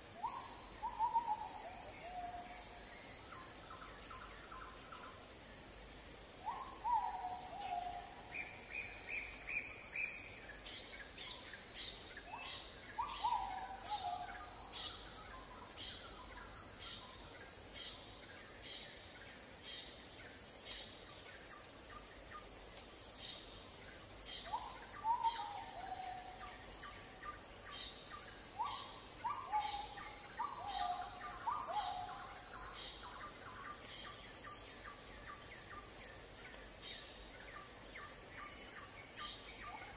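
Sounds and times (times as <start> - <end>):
insect chirping: 0.0 - 39.9
insects droning: 0.0 - 39.9.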